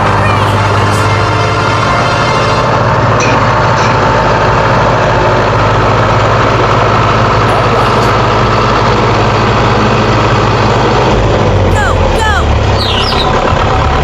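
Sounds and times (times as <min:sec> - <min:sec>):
heavy vehicle engine idling: 0:00.0 - 0:14.0.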